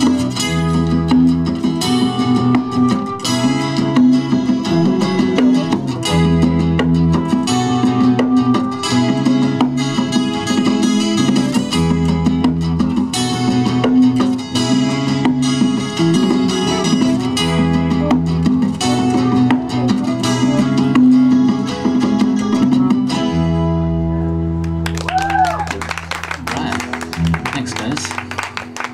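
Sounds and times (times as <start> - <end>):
strummed acoustic guitars: 0.0 - 25.0, 25.8 - 28.9
held bass notes: 0.0 - 28.9.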